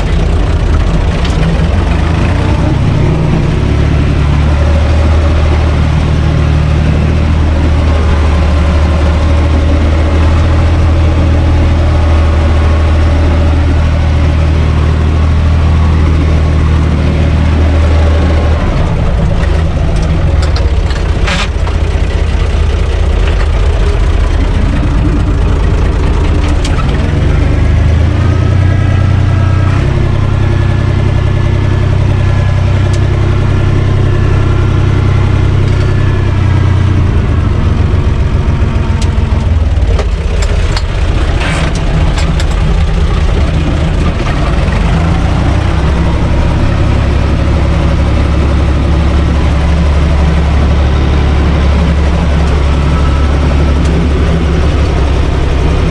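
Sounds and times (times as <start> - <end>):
high whine: 0.0 - 55.9
tractor diesel engine running: 0.0 - 55.9.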